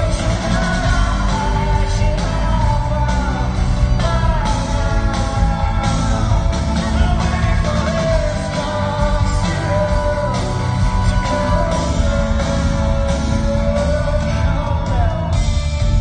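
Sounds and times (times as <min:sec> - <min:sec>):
man singing long notes: 0:00.0 - 0:15.6
live rock band: 0:00.0 - 0:16.0.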